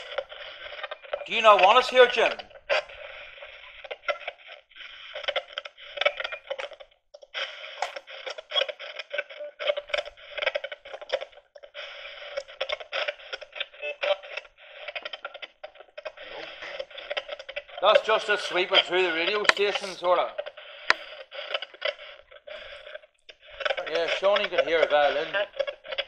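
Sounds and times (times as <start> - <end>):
radio scanner static: 0.0 - 26.0
snatches of broadcast sound: 0.0 - 26.0.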